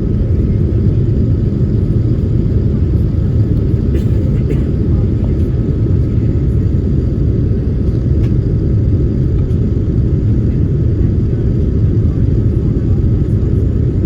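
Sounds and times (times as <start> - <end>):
airliner engines rumbling: 0.0 - 14.0
faint steady whine: 0.0 - 14.0.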